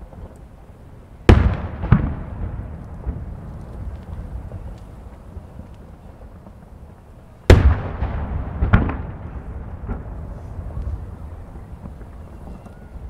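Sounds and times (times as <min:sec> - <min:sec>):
firework shells booming: 0:01.2 - 0:06.7, 0:07.4 - 0:13.0
rumbling echo: 0:01.3 - 0:13.0.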